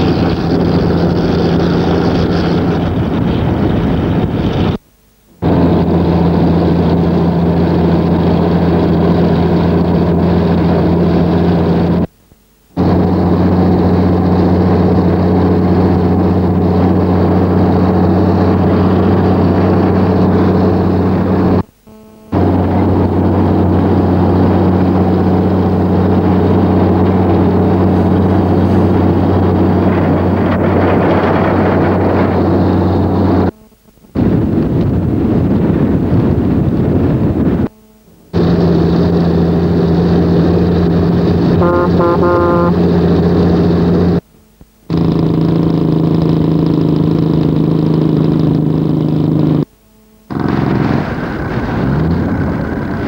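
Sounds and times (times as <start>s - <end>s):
truck diesel engine cruising: 0.0s - 4.8s, 5.4s - 12.1s, 12.8s - 53.0s
wind and road noise: 0.0s - 12.1s, 12.8s - 21.7s, 22.3s - 53.0s.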